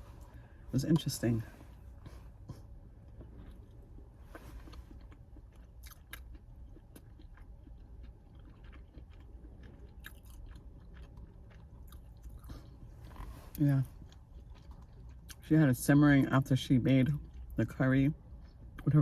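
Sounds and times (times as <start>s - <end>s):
low steady hum: 0.0s - 19.0s
person chewing food: 0.2s - 16.3s, 17.0s - 17.6s, 18.2s - 18.9s.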